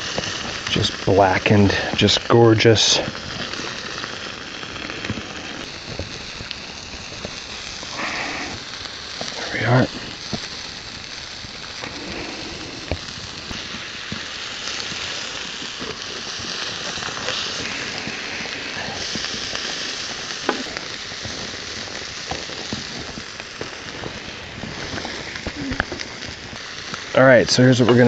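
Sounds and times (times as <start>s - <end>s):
fish sizzling in a frying pan: 0.0s - 28.0s.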